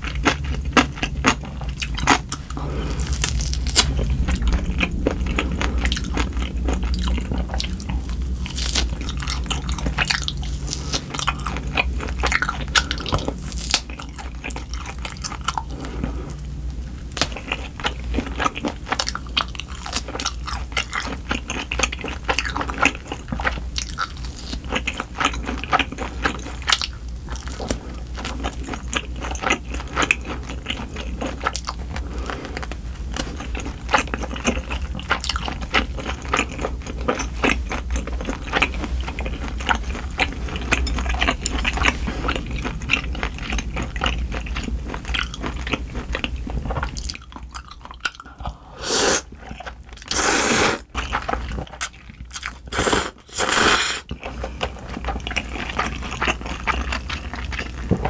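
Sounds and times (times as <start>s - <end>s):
chewing and biting meat: 0.0s - 57.9s.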